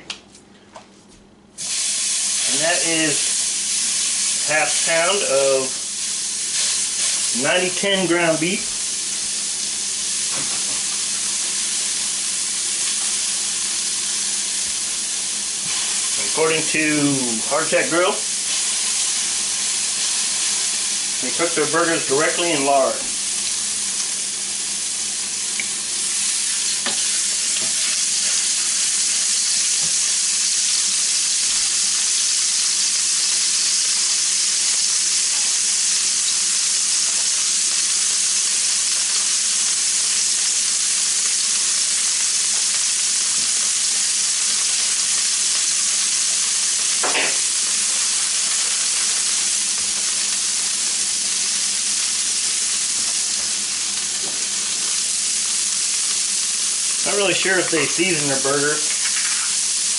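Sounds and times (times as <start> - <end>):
meat patty sizzling in a pan: 1.6 - 59.9.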